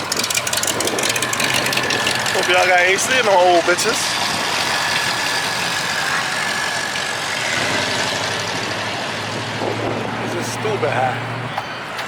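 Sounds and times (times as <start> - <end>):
low engine hum: 0.0 - 11.9
car engines idling: 0.0 - 12.0.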